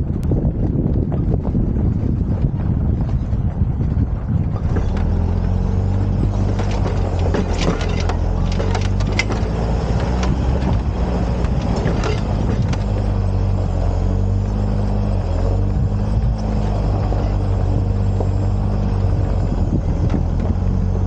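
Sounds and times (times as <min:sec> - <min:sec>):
diesel engine running: 0:00.0 - 0:21.0
gravel crackling under tyres: 0:00.0 - 0:21.0.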